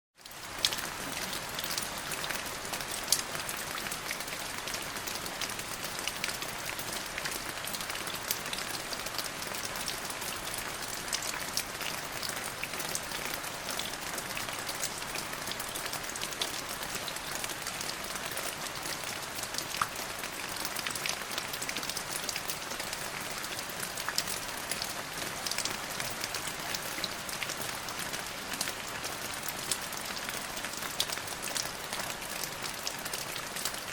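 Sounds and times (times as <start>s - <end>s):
rain falling: 0.2s - 33.9s
raindrops pattering on surface: 0.2s - 33.9s.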